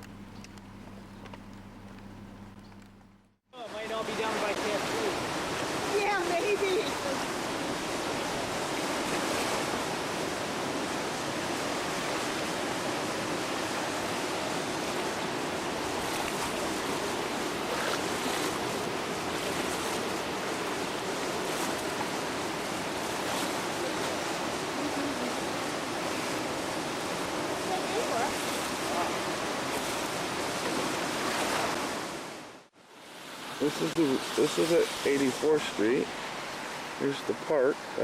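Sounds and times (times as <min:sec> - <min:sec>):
floodwater rushing: 0:03.6 - 0:38.0.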